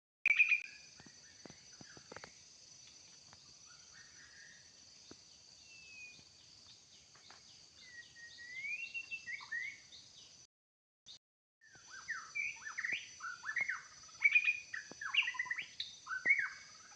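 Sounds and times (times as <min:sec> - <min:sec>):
bird singing whistled notes: 0:00.3 - 0:02.4, 0:03.4 - 0:04.7, 0:05.6 - 0:10.5, 0:11.6 - 0:16.9.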